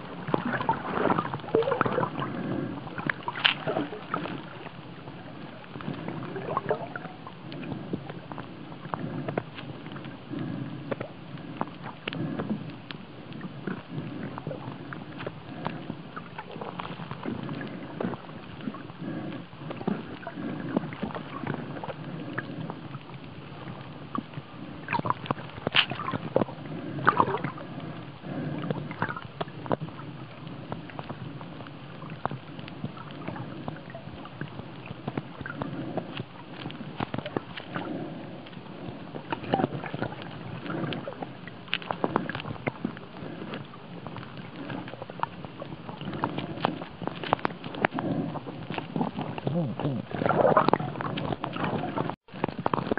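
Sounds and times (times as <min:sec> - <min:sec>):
underwater sloshing and gurgling: 0:00.0 - 0:52.9
sharp clicks and crackles: 0:02.9 - 0:52.9.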